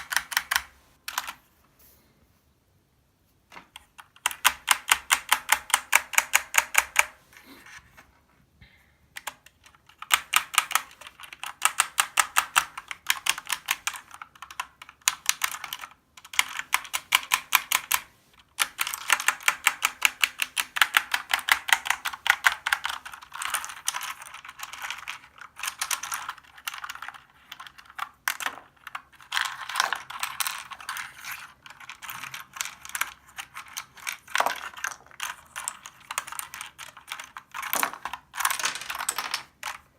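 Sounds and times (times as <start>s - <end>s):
mechanical keyboard typing: 0.0s - 1.4s, 3.7s - 7.2s, 9.2s - 39.9s.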